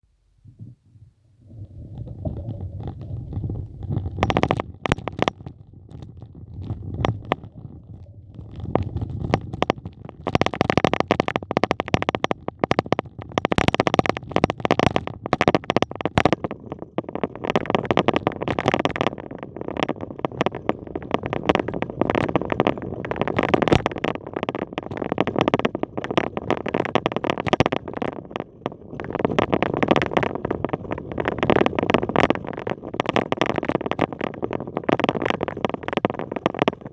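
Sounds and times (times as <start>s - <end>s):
wind rumbling on microphone: 0.4s - 36.9s.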